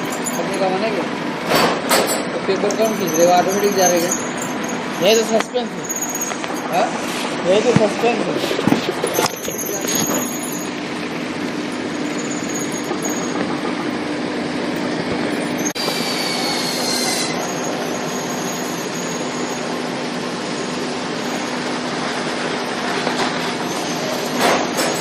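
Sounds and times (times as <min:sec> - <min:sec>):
high machine whine: 0:00.0 - 0:25.0
machine constant hum: 0:00.0 - 0:25.0
noisy mechanical rumble: 0:00.0 - 0:25.0.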